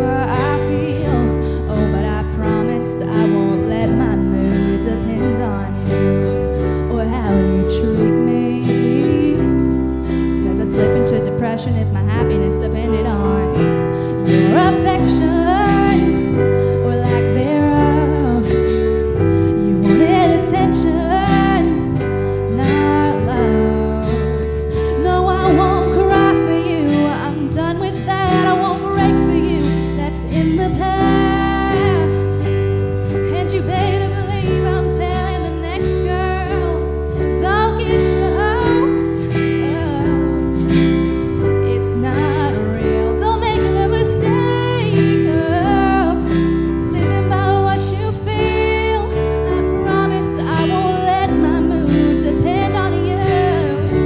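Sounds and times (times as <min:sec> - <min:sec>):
acoustic guitar chords: 0:00.0 - 0:54.0
woman singing: 0:00.0 - 0:54.0.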